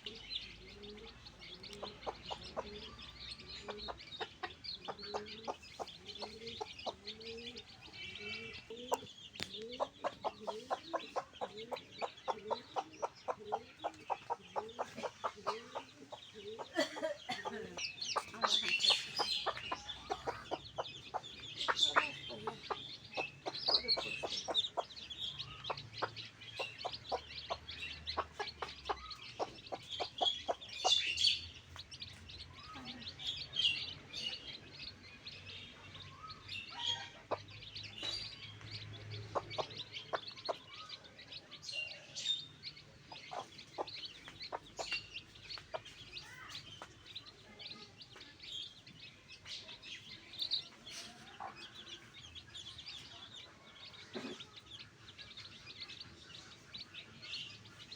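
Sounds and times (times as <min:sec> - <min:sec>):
chickens clucking and chirping: 0:00.0 - 0:57.9.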